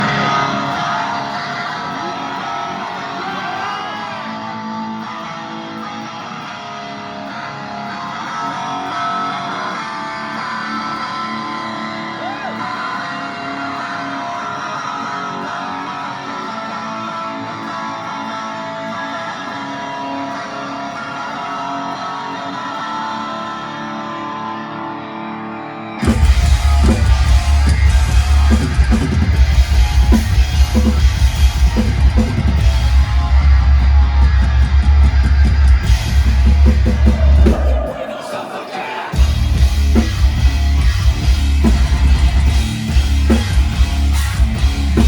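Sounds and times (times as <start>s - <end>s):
ringing guitar chords: 0.0s - 45.0s.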